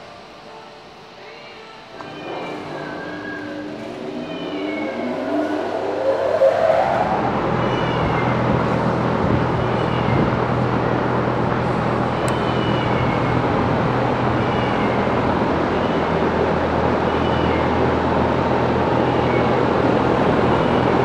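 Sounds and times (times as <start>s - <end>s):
exhaust fan running: 0.0s - 21.0s.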